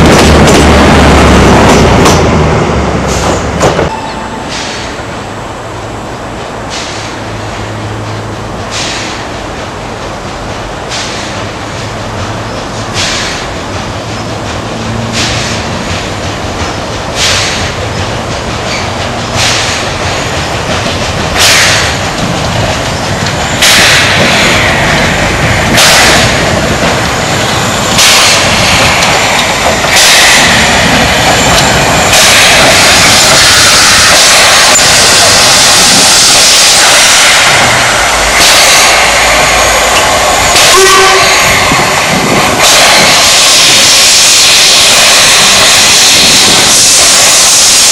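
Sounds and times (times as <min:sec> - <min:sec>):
regular noisy train beat: 0:00.0 - 0:47.9
train approaching: 0:00.0 - 0:47.9.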